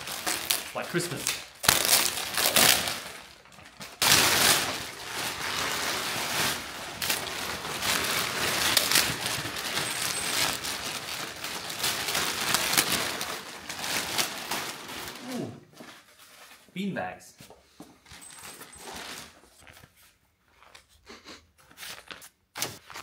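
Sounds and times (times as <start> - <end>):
plastic sheet crinkling: 0.0 - 16.7, 18.1 - 21.0.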